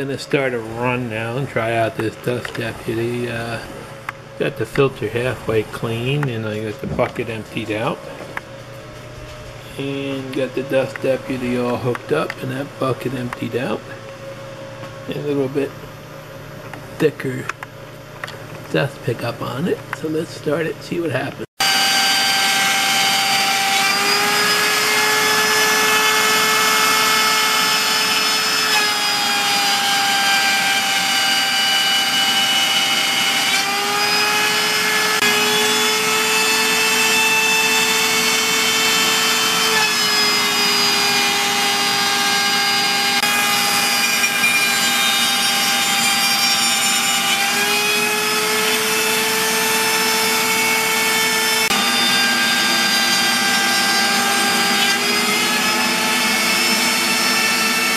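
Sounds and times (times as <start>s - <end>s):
router spindle whine: 0.0s - 15.7s, 19.9s - 57.9s
shop vacuum running: 0.0s - 57.9s.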